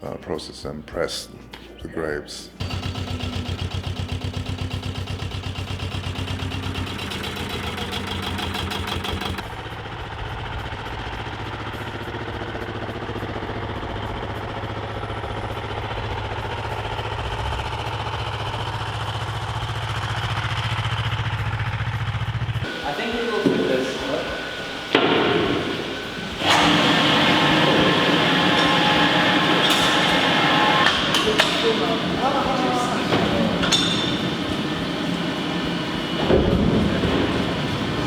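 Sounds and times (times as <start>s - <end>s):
low engine drone: 2.5s - 38.0s
engine running with fast pulse: 2.6s - 38.0s.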